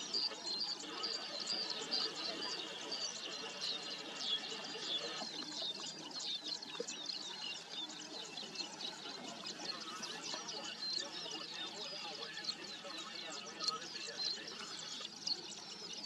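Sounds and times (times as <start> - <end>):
wild birds chirping: 0.0 - 16.0.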